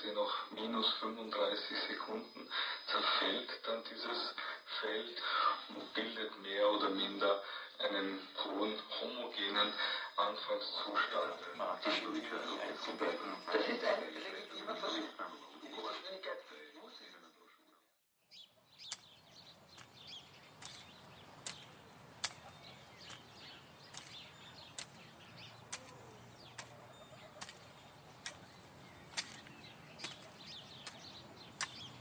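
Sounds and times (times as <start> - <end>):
faint garden ambience: 0.0 - 32.0.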